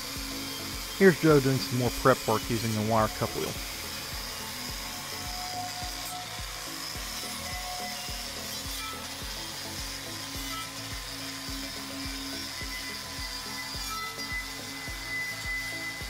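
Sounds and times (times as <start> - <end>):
angle grinder wire brush scrubbing: 0.0 - 16.0
background music with low thumps: 0.0 - 16.0.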